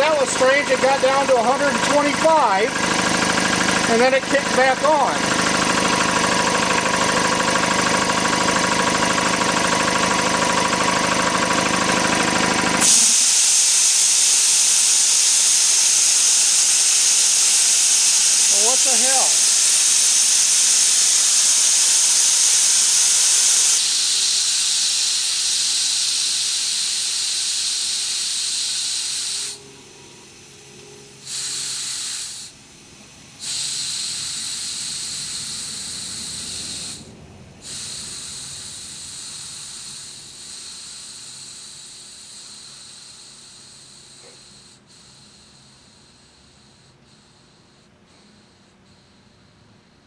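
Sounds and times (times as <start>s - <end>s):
compressed air hissing: 0.0s - 49.5s.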